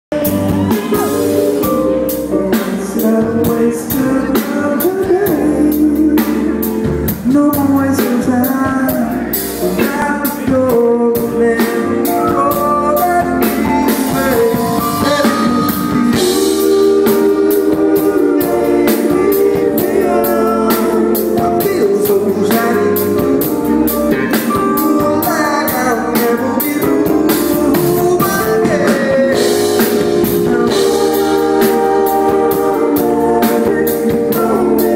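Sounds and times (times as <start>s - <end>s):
live soul band playing: 0.1s - 34.9s
person singing: 0.1s - 34.9s
drum-kit beat: 6.2s - 34.9s.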